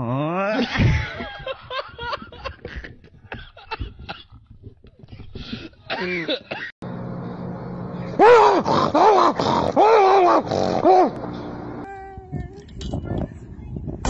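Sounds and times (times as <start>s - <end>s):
steady low hum: 0.7s - 14.0s.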